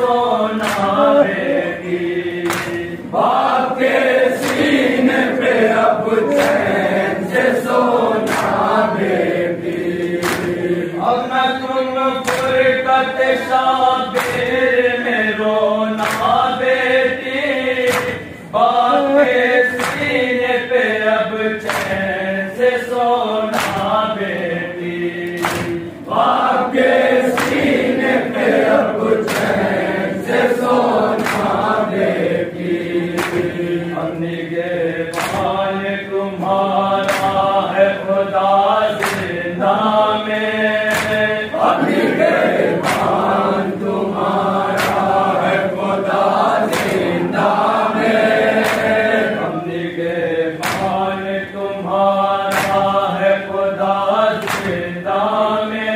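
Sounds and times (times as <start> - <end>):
men chanting in unison: 0.0 - 55.9.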